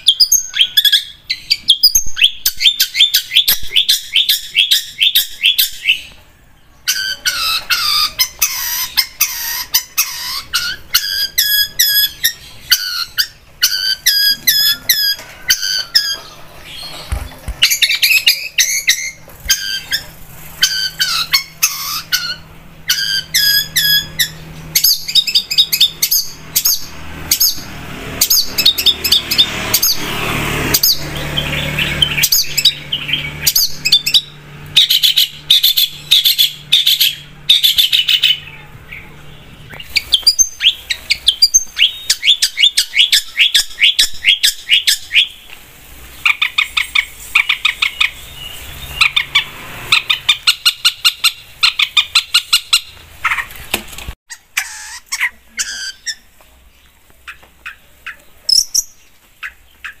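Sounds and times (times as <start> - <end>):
shrike singing chattering song: 0.0 - 53.5.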